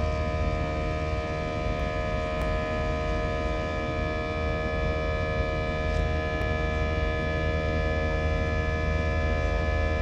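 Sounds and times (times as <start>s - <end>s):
jet engine drone: 0.0s - 10.0s
steady whining tones: 0.0s - 10.0s.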